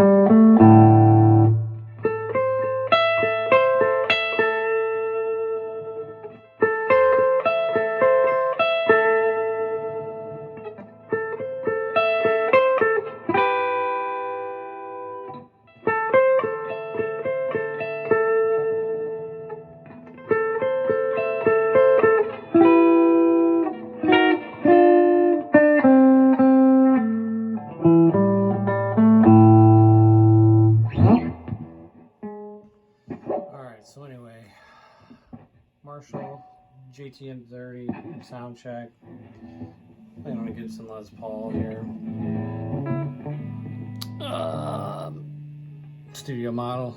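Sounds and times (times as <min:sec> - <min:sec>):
electric guitar playing: 0:00.0 - 0:33.5, 0:39.0 - 0:46.9.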